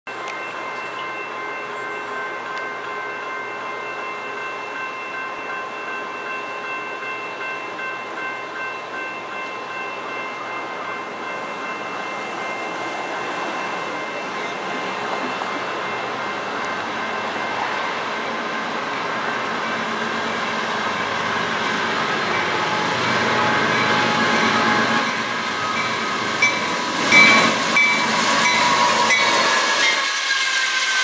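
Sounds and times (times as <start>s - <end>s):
crossing warning bells ringing: 0.1s - 31.0s
freight train approaching: 0.1s - 31.0s.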